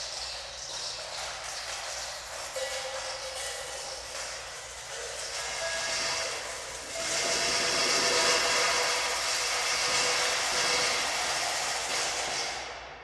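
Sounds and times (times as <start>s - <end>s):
pouring into metal bowl: 0.0s - 12.6s.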